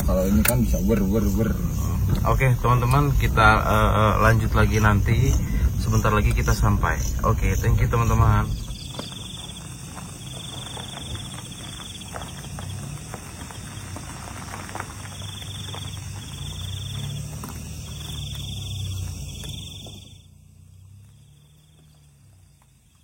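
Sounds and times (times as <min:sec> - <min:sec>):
car driving rumble from cabin: 0:00.0 - 0:23.0
insects trilling: 0:00.0 - 0:23.0.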